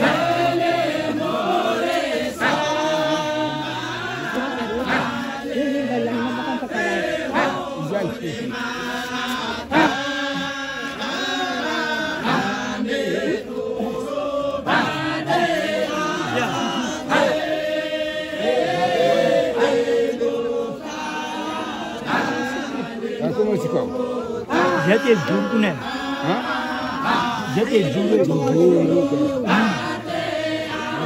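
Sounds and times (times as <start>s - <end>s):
men chanting together: 0.0s - 31.0s.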